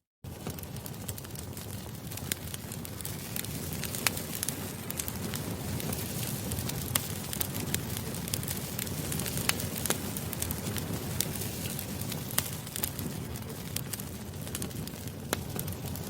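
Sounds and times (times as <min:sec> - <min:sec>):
campfire crackling and popping: 0:00.3 - 0:16.0.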